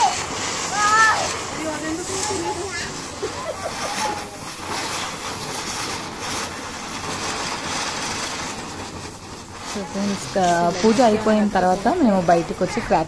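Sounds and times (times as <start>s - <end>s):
fireworks hissing and crackling: 0.0s - 13.0s.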